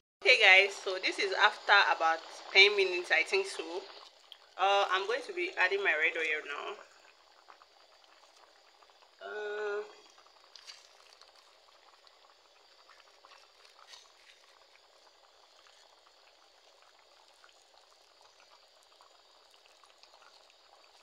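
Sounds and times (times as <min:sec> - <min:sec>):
pot of beans bubbling: 0:00.2 - 0:21.0.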